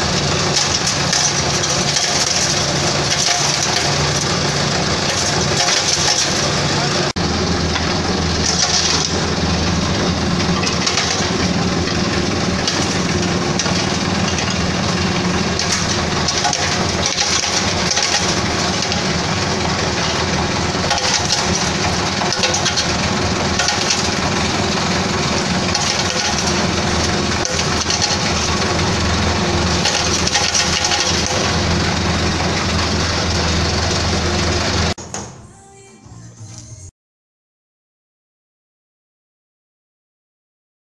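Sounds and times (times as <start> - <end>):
machine drive hum: 0.0 - 35.7.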